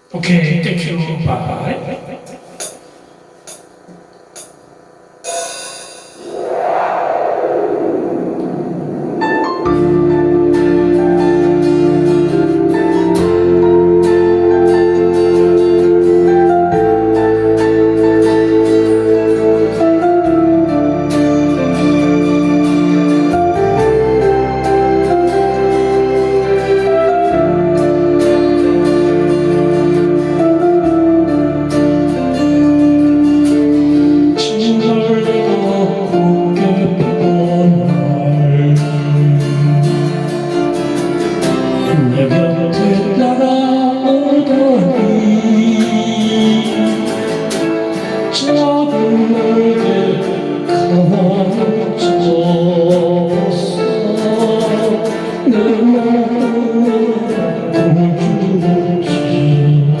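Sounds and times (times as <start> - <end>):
person singing ballad: 8.5 - 60.0
guitar accompaniment: 9.2 - 60.0.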